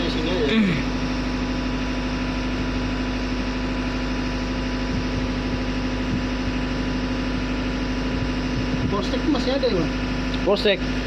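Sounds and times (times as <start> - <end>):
engine room machinery drone: 0.0 - 11.0.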